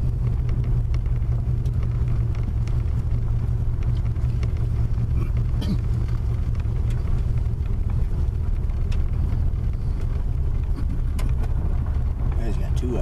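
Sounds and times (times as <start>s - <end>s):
car driving on gravel: 0.0s - 13.0s.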